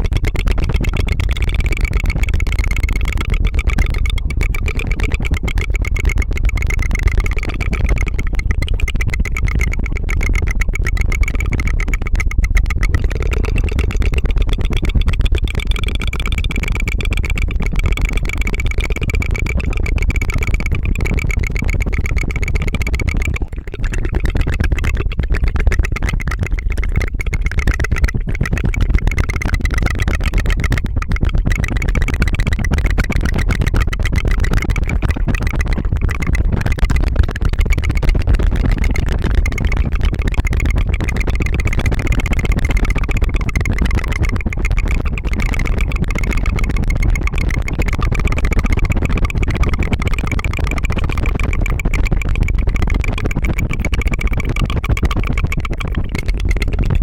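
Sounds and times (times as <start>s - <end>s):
tongue fluttering: 0.0s - 57.0s.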